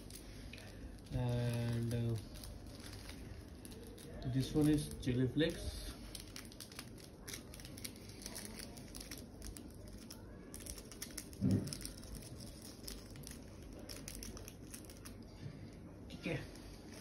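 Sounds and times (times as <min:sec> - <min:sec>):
flakes pattering onto pizza: 0:00.0 - 0:15.6
paper sachet crinkling: 0:00.0 - 0:15.8, 0:16.4 - 0:17.0.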